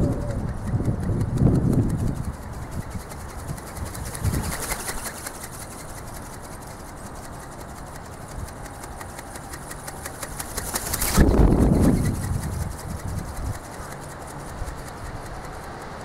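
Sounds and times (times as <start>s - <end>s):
motor mechanical ticking: 0.0s - 16.0s
wind rumbling on microphone: 0.0s - 16.0s.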